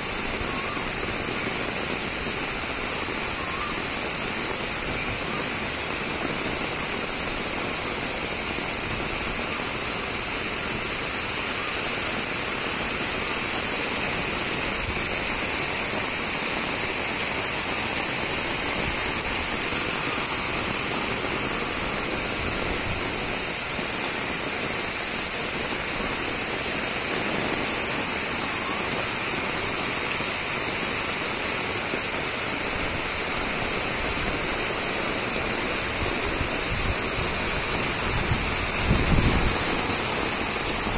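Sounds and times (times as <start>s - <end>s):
torrential rain on trees and roof: 0.0s - 40.9s.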